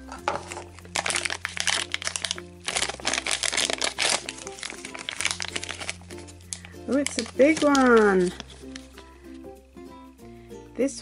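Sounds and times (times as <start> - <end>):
plastic bag crinkling: 0.0 - 9.4
background music: 0.0 - 11.0.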